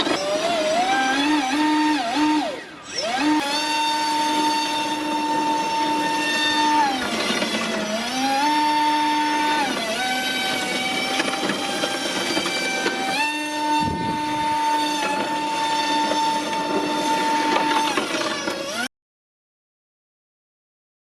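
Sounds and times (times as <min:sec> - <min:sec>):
electric motor and propeller whining: 0:00.0 - 0:18.9.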